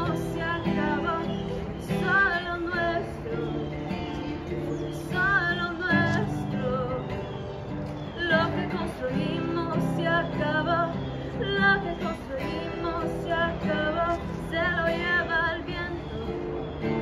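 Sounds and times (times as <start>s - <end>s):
acoustic guitar: 0.0s - 17.0s
woman singing: 0.0s - 17.0s.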